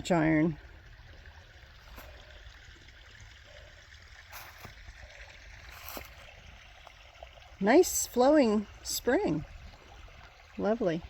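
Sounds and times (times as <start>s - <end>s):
spring water trickling: 0.0s - 11.0s.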